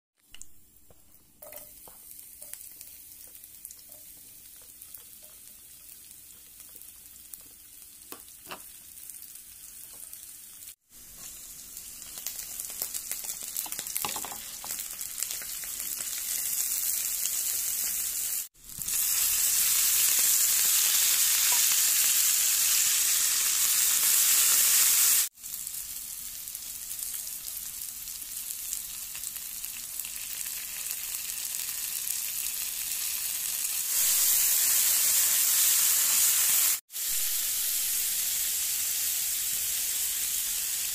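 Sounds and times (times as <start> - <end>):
hot oil sizzling in a frying pan: 0.2 - 40.9.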